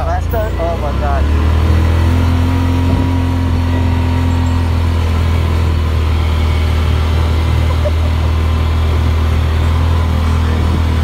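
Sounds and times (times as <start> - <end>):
vehicle engine low drone: 0.0 - 11.0.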